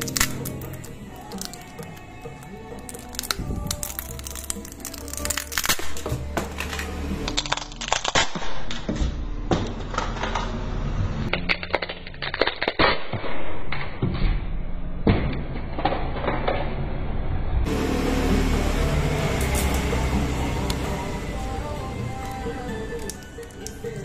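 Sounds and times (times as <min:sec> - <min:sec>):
faint background music: 0:00.0 - 0:13.3, 0:14.1 - 0:24.0.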